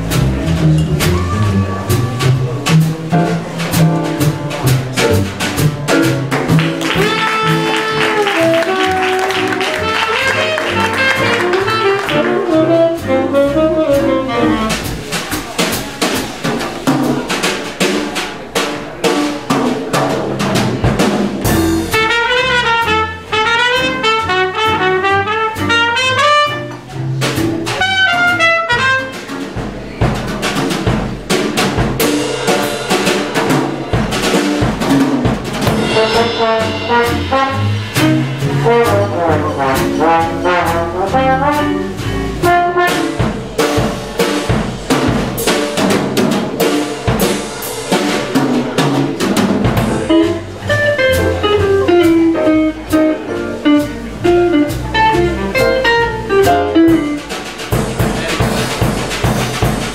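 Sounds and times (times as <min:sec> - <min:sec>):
small jazz combo playing: 0:00.0 - 0:59.9.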